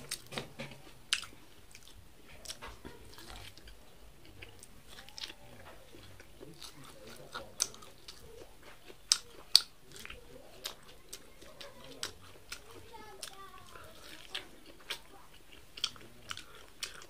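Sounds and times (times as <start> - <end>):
chewing corn on the cob: 0.0 - 17.0.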